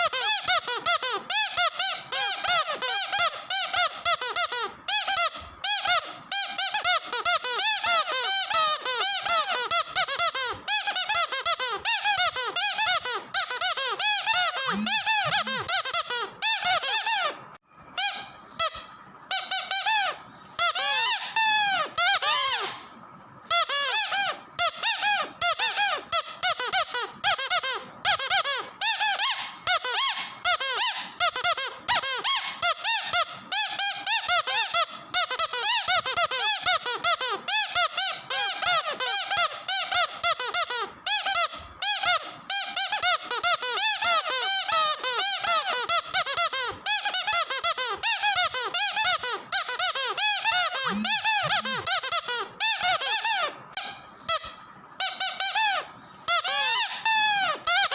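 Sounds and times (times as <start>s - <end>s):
squeaky dog toy squeaks: 0.0s - 57.9s.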